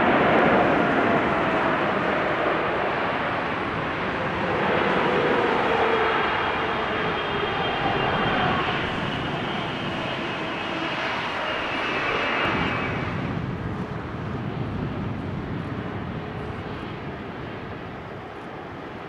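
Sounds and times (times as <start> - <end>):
jet airliner taking off: 0.0 - 19.0.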